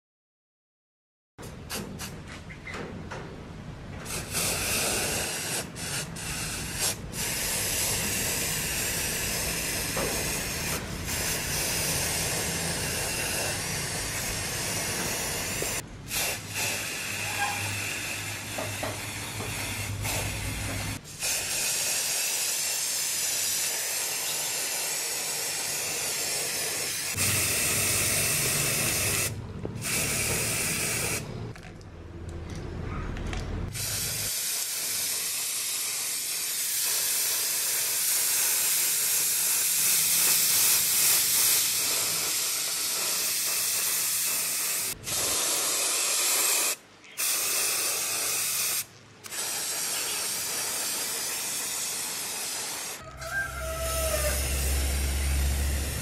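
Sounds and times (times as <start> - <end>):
spray paint can hissing: 4.0 - 31.3, 33.7 - 56.0.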